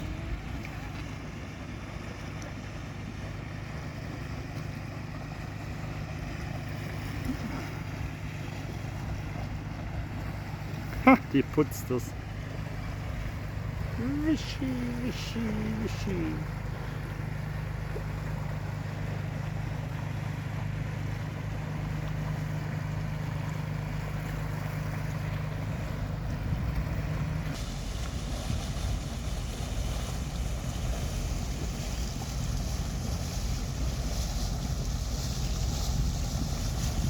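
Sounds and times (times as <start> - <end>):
boat engine low drone: 0.0 - 37.0
wind and water rushing: 0.0 - 37.0.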